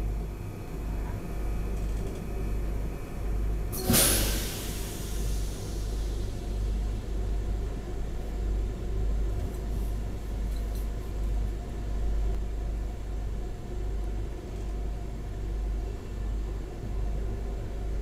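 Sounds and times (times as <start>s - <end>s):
diesel train rumbling on track: 1.7s - 18.0s.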